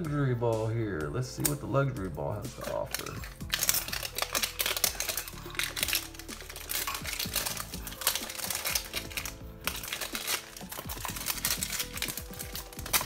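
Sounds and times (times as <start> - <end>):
background music: 0.0 - 13.0
plastic shrink-wrap crinkling: 2.5 - 13.0.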